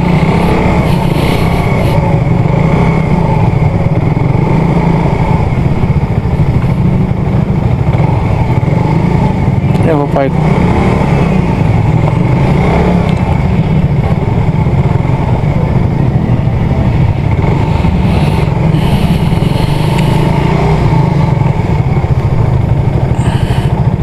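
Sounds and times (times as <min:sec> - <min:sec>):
motorcycle engine running slowly: 0:00.0 - 0:24.0.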